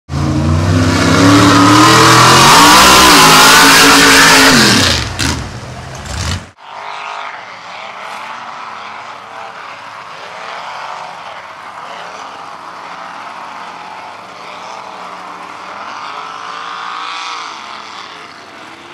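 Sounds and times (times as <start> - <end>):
engines idling: 0.1 - 18.9
loud engine revving: 0.1 - 18.9.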